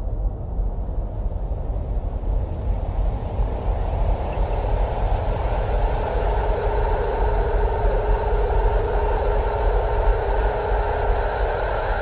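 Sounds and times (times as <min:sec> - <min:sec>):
dense rumble and hiss: 0:00.0 - 0:12.0
steady hum: 0:01.7 - 0:12.0.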